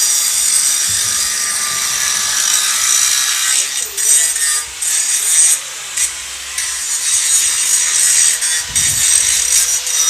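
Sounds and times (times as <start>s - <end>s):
angle grinder on steel: 0.0s - 10.0s.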